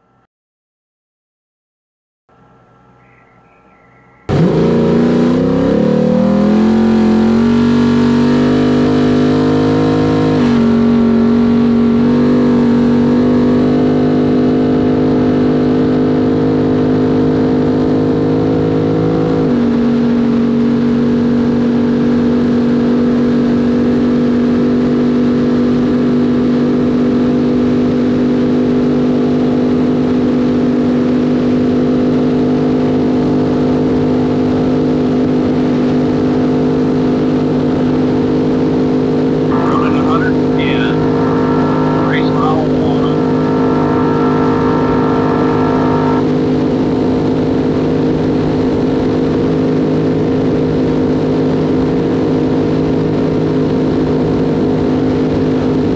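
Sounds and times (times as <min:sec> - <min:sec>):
truck engine accelerating hard: 0:03.8 - 0:55.9.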